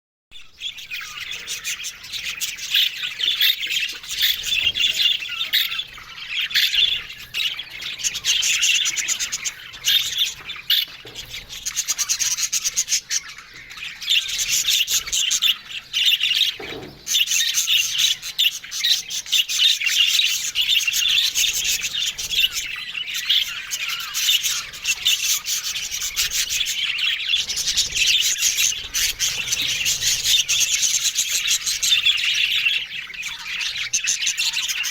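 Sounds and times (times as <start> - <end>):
budgerigars chattering: 0.4 - 34.9.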